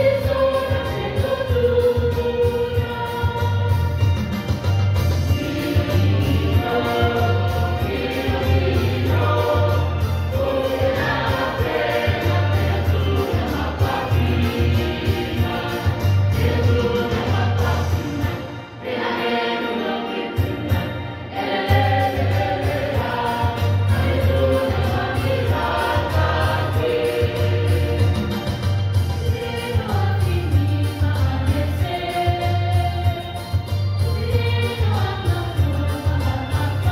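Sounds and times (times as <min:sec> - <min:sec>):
choir singing: 0:00.0 - 0:04.3, 0:05.2 - 0:28.6, 0:29.2 - 0:36.9.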